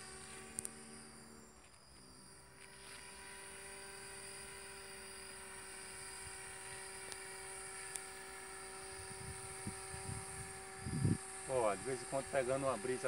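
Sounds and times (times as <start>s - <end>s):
model aircraft motor humming: 0.0s - 13.0s.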